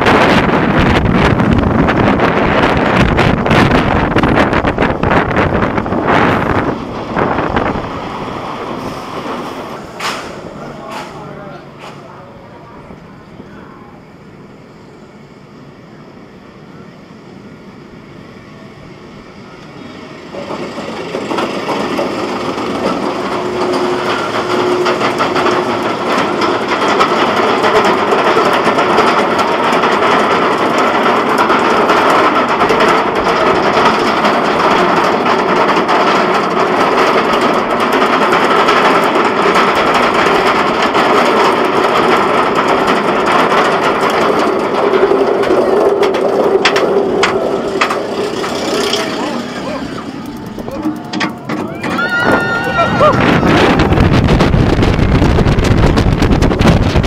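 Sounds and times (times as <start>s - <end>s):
roller coaster train rattling on track: 0.0s - 57.0s.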